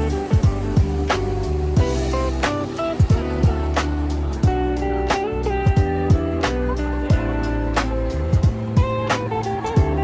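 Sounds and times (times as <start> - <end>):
background music with a beat: 0.0 - 10.0.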